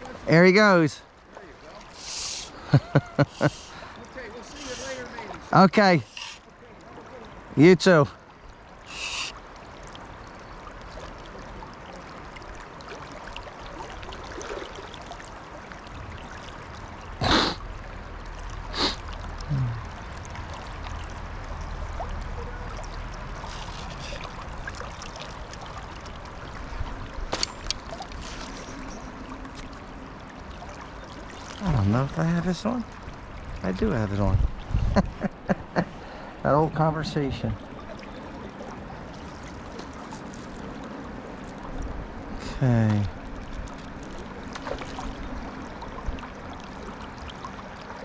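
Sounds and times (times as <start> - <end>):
river water flowing: 0.0 - 48.0.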